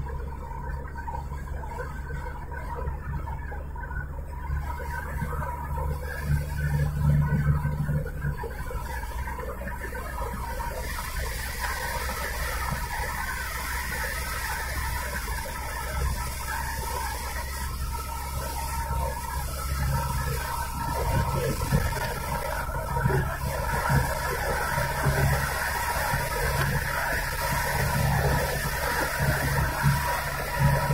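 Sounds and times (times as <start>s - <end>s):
car tyre and engine noise: 0.0s - 30.9s.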